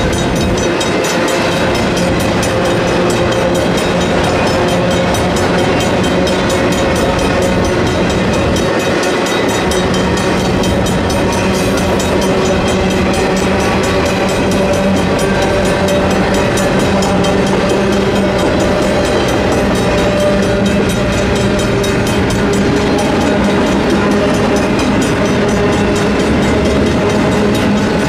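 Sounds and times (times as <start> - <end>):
electronic crossing bell: 0.0 - 28.0
freight train cars rumbling: 0.0 - 28.0
mechanical crossing bell: 0.0 - 28.0.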